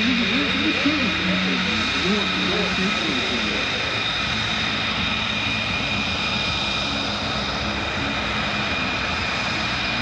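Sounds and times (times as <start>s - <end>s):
jet engines running: 0.0s - 10.0s.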